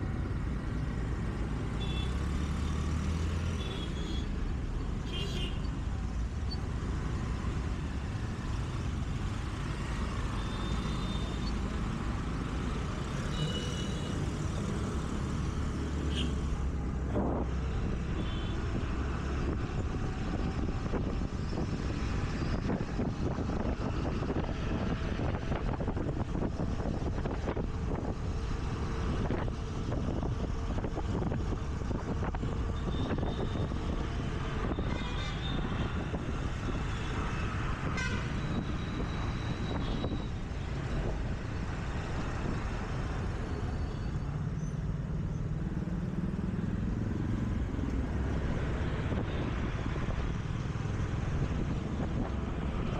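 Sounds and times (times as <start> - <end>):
scooter engine and traffic rumble: 0.0 - 52.9.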